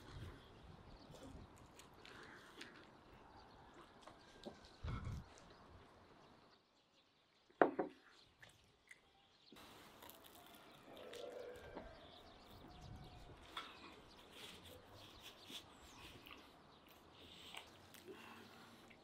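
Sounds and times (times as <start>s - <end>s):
faint chewing: 0.0s - 6.1s, 8.4s - 19.0s.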